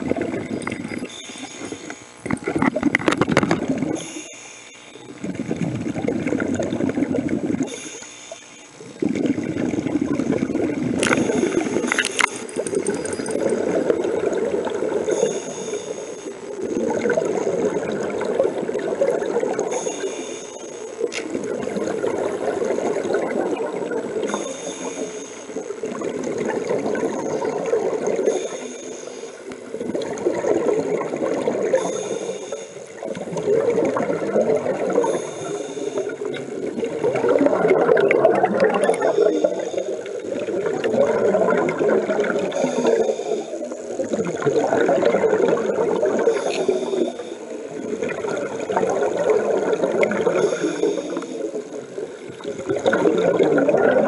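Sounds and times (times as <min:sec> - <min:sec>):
diver's exhaled bubbles gurgling: 0:00.0 - 0:04.2, 0:05.0 - 0:07.9, 0:08.8 - 0:54.0.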